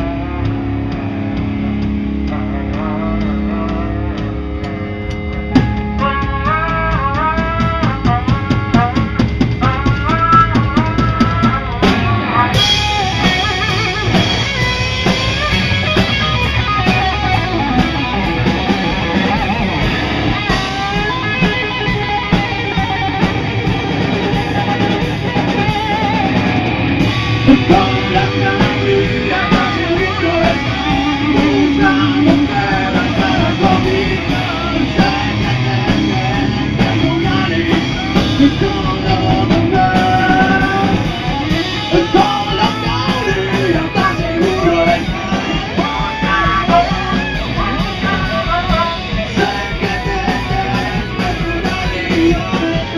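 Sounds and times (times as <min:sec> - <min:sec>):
drum kit beat: 0:00.0 - 0:52.9
electric guitar lead with bent notes: 0:00.0 - 0:52.9.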